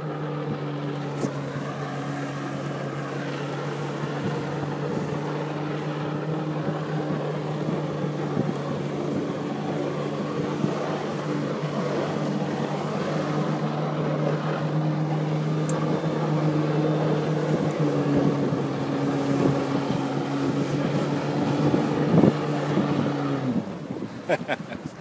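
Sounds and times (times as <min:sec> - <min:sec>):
personal watercraft engine drone: 0:00.0 - 0:25.0.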